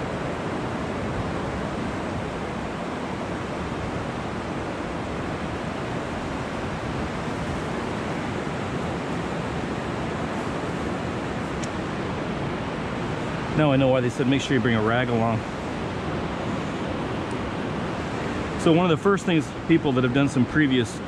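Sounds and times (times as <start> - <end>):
ocean surf rushing: 0.0 - 21.0
wind: 0.0 - 21.0.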